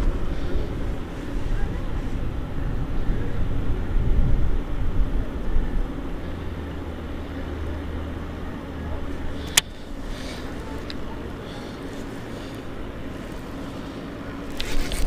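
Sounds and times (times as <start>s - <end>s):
low engine hum: 0.0s - 15.0s
wind buffeting microphone: 0.0s - 15.0s.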